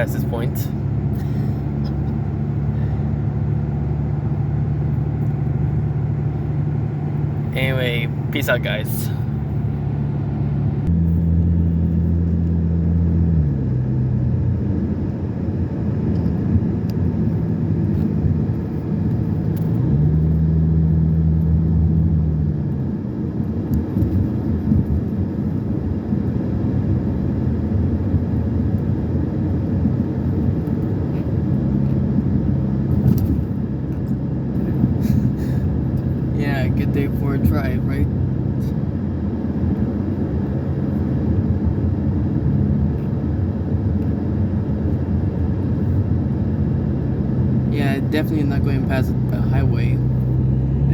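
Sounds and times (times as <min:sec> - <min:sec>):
car engine hum: 0:00.0 - 0:50.9
road and tyre noise: 0:00.0 - 0:50.9.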